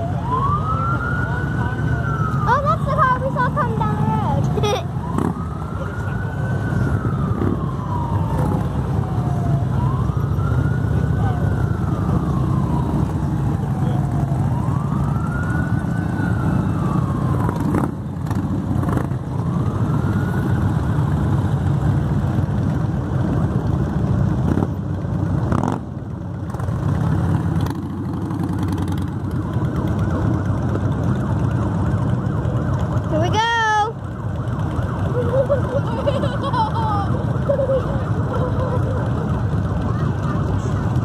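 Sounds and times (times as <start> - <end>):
warbling siren yelp: 0.0 - 22.1, 28.3 - 41.0
emergency siren wailing: 0.0 - 41.0
motorcycle and car engines rumbling: 0.0 - 41.0.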